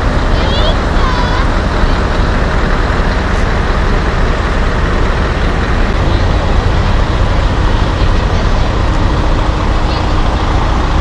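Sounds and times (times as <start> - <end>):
diesel truck engines rumbling: 0.0 - 11.0.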